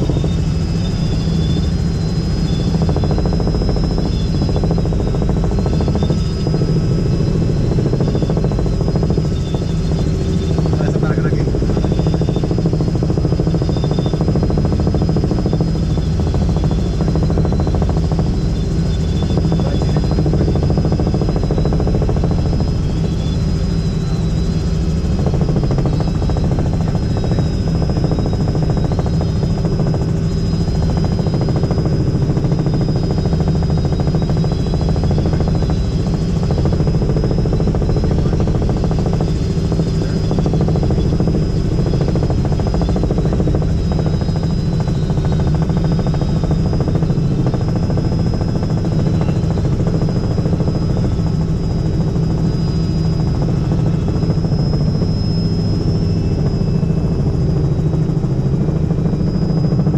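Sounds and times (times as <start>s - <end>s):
helicopter rotor and engine rumble: 0.0s - 59.9s
high turbine whine: 0.0s - 59.9s.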